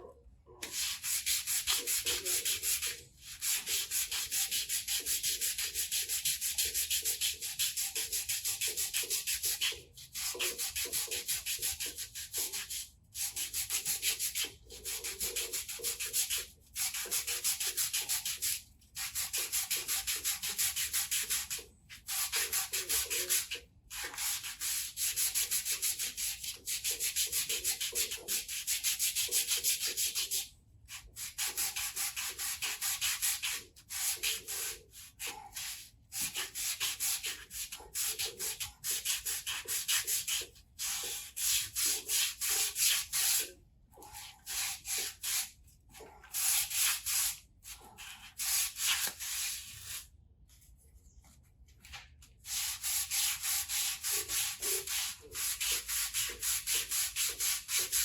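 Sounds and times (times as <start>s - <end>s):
sandpaper sanding metal: 0.6s - 30.4s, 31.2s - 43.5s, 46.3s - 47.4s, 48.0s - 50.1s, 52.5s - 58.0s.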